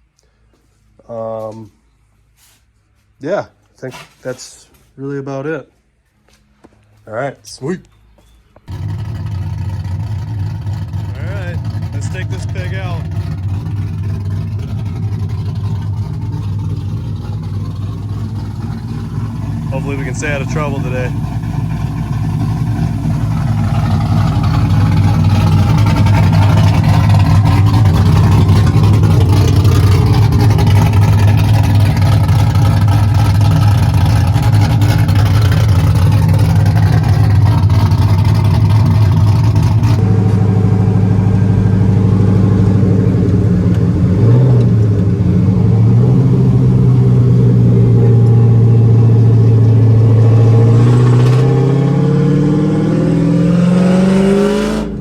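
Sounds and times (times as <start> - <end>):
road noise: 3.8 - 55.0
car engine running: 8.6 - 55.0
engine revving: 8.7 - 55.0.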